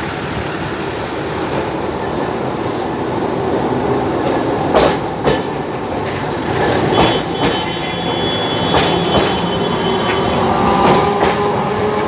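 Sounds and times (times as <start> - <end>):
tram wheels running on rails: 0.0 - 12.0.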